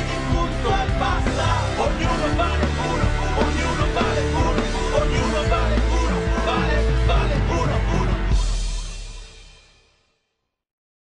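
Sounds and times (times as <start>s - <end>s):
song with drum kit: 0.0s - 10.0s.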